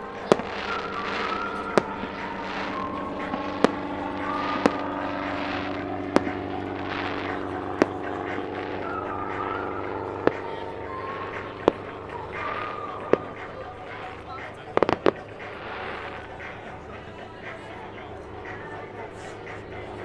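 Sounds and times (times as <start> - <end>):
fireworks bangs: 0.0 - 17.7
helicopter engine and rotor drone: 0.0 - 20.0.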